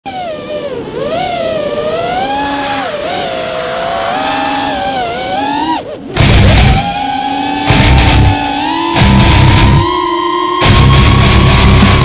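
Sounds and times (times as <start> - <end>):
drone motors whining: 0.1 - 12.0.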